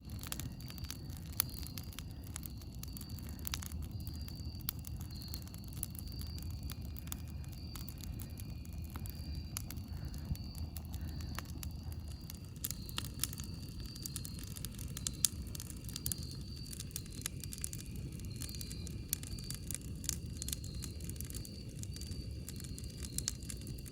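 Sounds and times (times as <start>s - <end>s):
campfire crackling and popping: 0.0s - 23.9s
low fire rumble: 0.0s - 23.9s.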